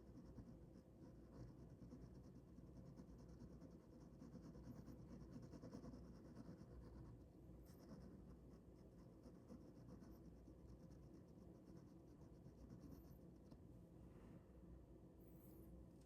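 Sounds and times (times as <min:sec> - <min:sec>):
ballpoint pen scratching on paper: 0:00.0 - 0:13.4.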